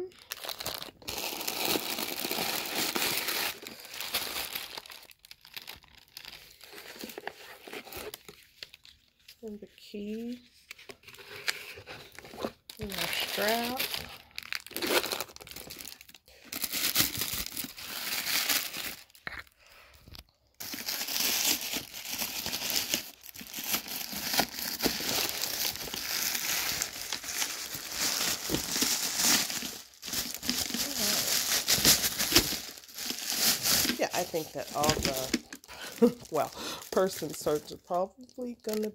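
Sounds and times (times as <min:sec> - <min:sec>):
packaging crinkling: 0:00.0 - 0:09.4, 0:10.7 - 0:38.9.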